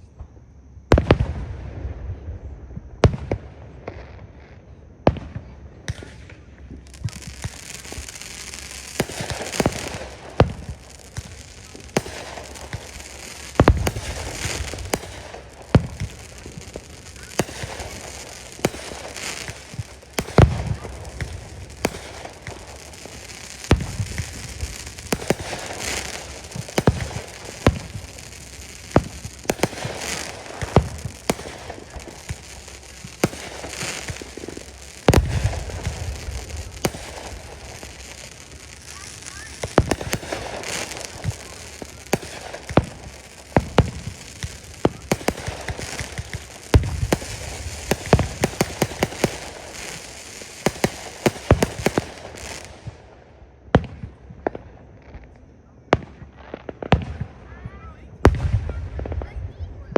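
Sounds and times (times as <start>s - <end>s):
fireworks bangs and booms: 0.0s - 59.9s
fireworks crackling: 0.0s - 59.9s.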